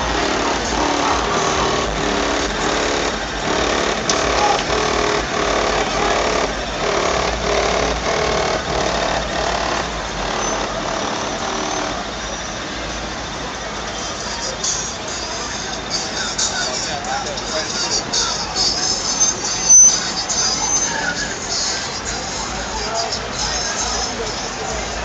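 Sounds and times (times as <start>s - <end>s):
loud music from car stereo: 0.0s - 10.1s, 14.0s - 25.0s.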